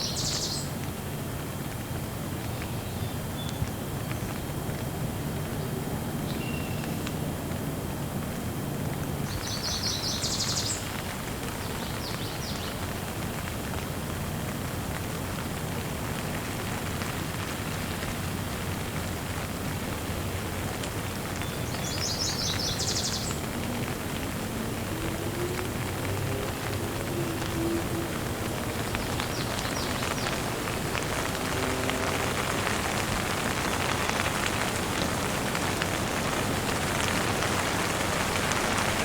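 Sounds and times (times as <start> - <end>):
light rain falling: 0.0 - 39.0.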